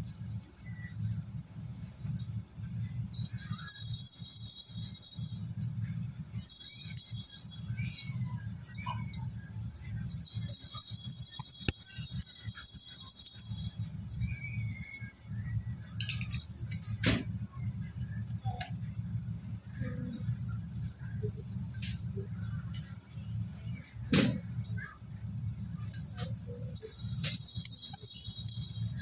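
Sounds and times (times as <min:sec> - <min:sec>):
bangles jingling and clinking: 0:00.0 - 0:18.8, 0:19.5 - 0:29.0.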